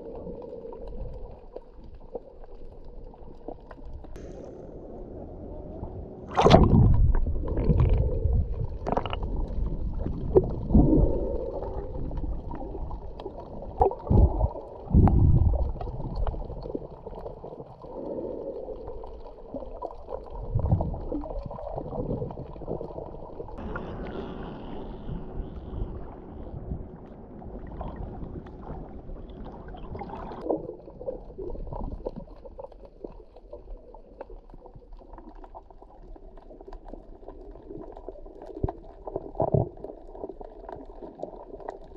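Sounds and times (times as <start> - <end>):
muffled underwater water gurgling: 0.0 - 41.9.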